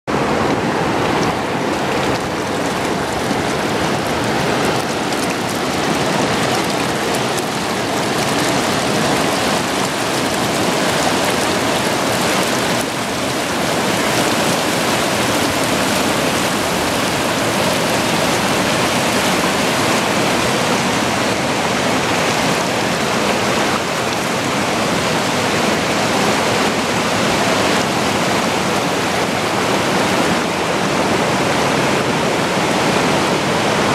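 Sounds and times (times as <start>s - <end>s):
water rushing over boulders: 0.1s - 33.9s.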